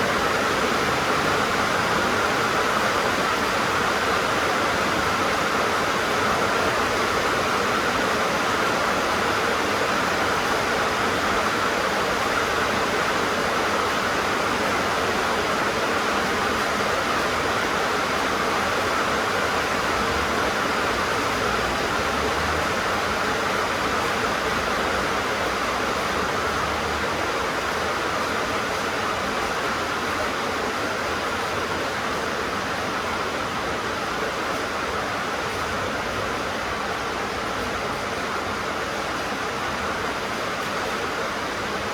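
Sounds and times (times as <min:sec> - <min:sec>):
rain on a tin roof: 0:00.0 - 0:41.9.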